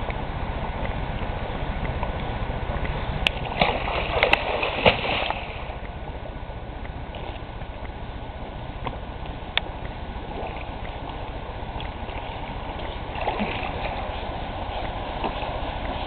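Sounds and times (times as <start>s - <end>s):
steady low rumble: 0.0s - 16.0s
water splashing and sloshing: 0.0s - 16.0s.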